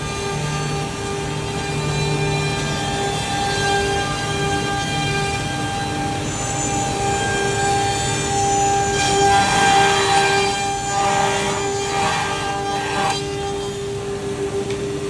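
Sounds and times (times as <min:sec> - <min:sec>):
rasping cutting noise: 0:00.0 - 0:13.9
router spindles whining: 0:00.0 - 0:14.8.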